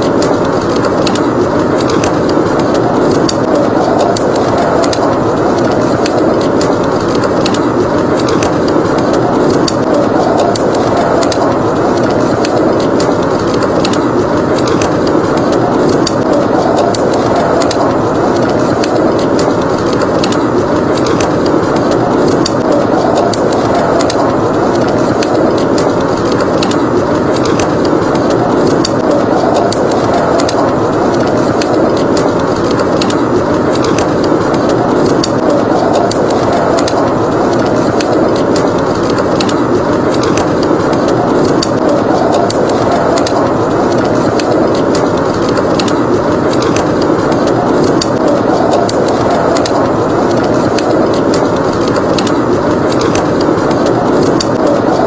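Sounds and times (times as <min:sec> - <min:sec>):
blizzard wind blowing: 0:00.0 - 0:55.0
wood fire crackling: 0:00.0 - 0:55.0.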